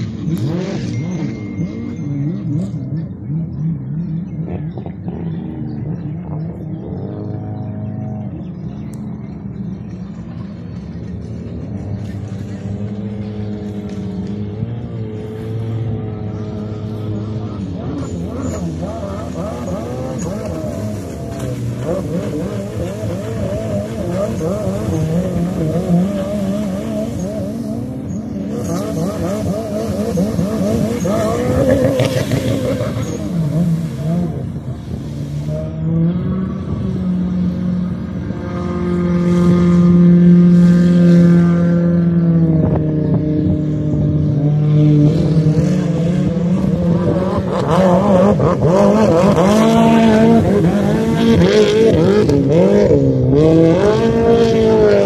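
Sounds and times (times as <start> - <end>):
jet ski engines revving: 0.0 - 55.0.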